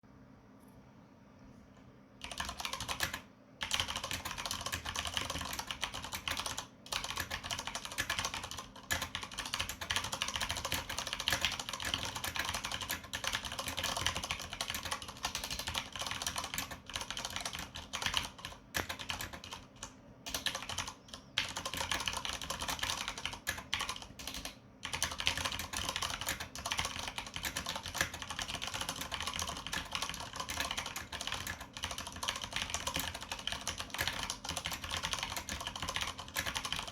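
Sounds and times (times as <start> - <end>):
typing on mechanical keyboard: 2.2 - 36.9.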